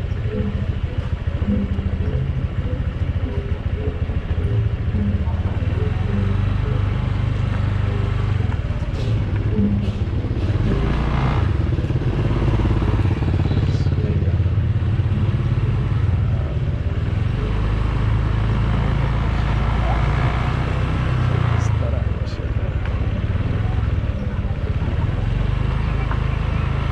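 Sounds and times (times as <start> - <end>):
motor scooter engine running: 0.0 - 26.9.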